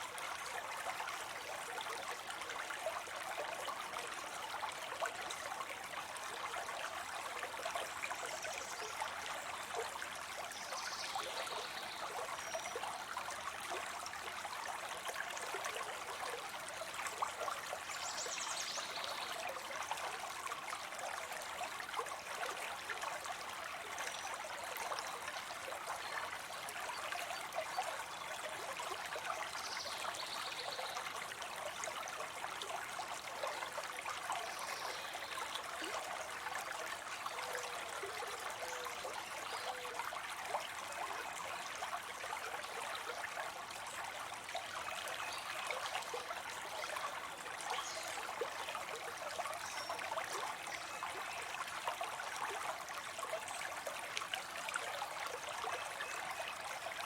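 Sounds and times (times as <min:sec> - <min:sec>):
water trickling into pond: 0:00.0 - 0:57.0.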